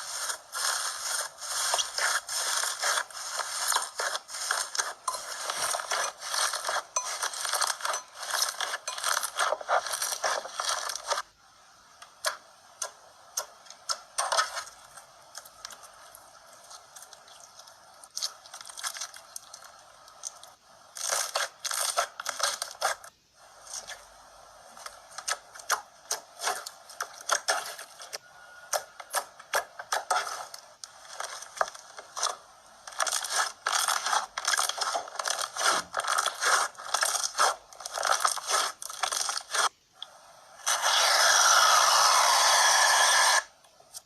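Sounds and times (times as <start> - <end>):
slime crackling and popping: 0.0 - 11.3, 12.0 - 24.2, 24.8 - 40.8.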